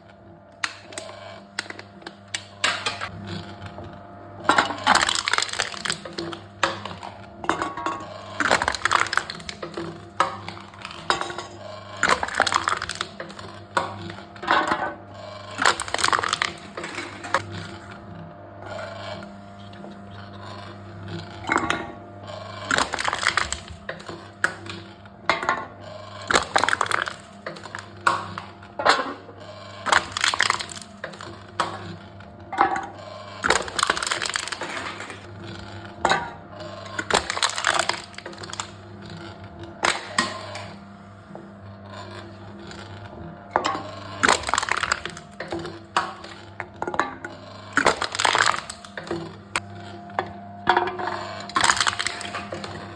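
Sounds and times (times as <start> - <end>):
low machine hum: 0.0 - 52.9
machine crushing cans: 0.5 - 52.9.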